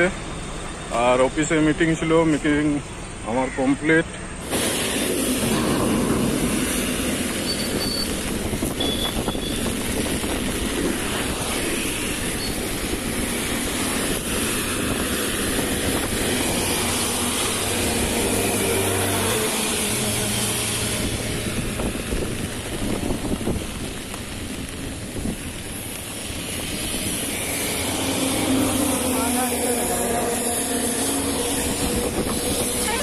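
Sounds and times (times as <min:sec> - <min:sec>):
traffic on wet road: 0:00.0 - 0:33.0
vehicle engine hum: 0:00.0 - 0:33.0
heavy rain: 0:04.4 - 0:33.0.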